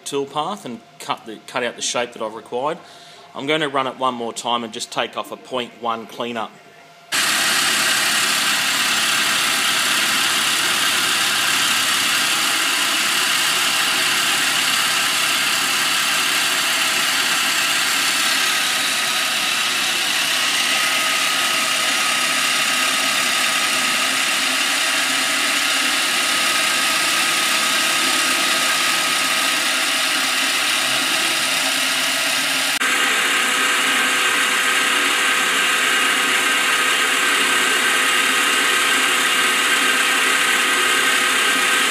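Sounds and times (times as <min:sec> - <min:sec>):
milling machine spindle whine: 0:06.8 - 0:41.9.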